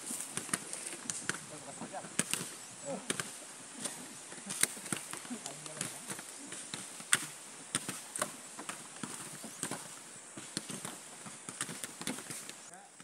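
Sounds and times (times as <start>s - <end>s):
coconuts knocking on wood: 0.2s - 12.6s.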